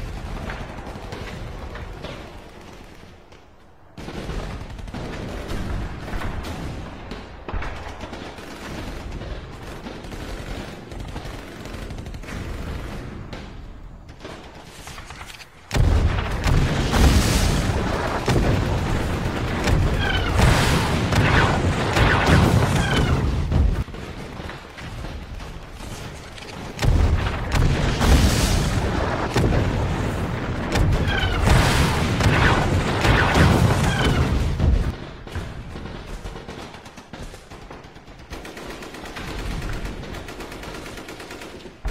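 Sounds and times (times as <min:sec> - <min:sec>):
explosions cracking: 0:00.0 - 0:36.5
rapid small-arms gunfire: 0:00.0 - 0:41.9.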